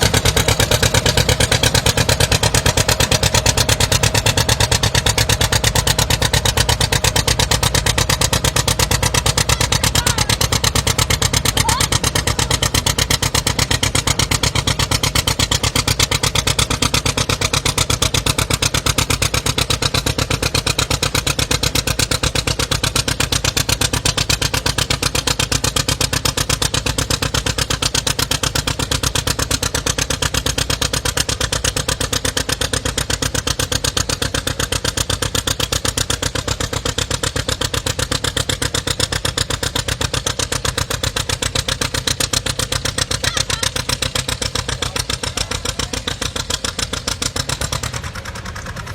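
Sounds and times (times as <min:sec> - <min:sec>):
tractor engine running loud: 0:00.0 - 0:48.9.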